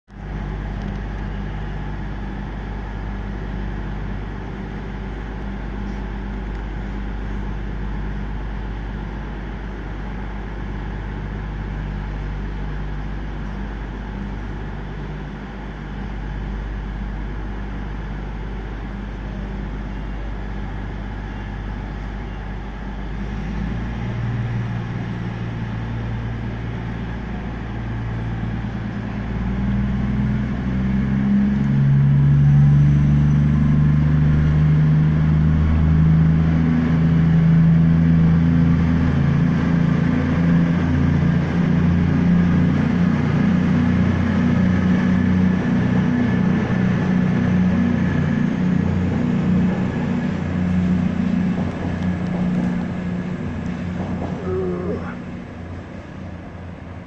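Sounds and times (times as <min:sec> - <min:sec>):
train diesel engines droning: 0:00.1 - 0:57.0.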